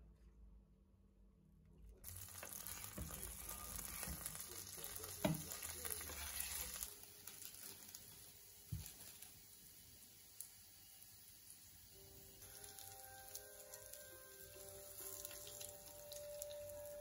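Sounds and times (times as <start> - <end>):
onions sizzling in hot oil: 2.0 - 17.0.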